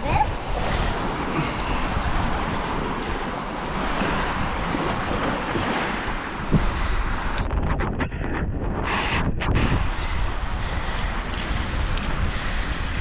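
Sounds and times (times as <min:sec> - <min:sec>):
surf rushing: 0:00.0 - 0:13.0
wind buffeting microphone: 0:00.0 - 0:13.0.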